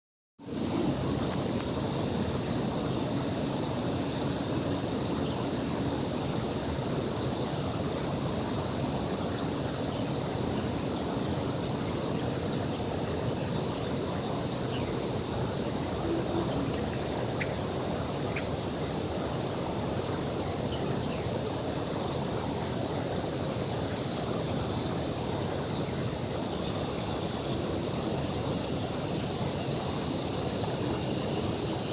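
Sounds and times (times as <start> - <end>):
faint high hiss: 0.4 - 31.9
outdoor background rush: 0.4 - 31.9.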